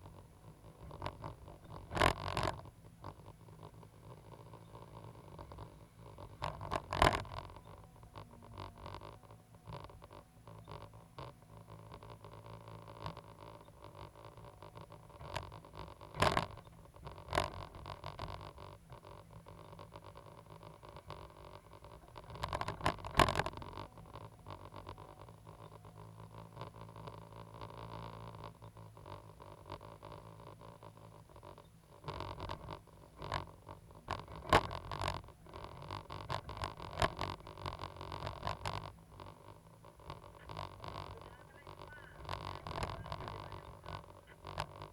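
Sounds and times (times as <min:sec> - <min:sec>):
excavator engine humming: 0:00.0 - 0:44.9
small clicks and rattles: 0:00.0 - 0:44.9.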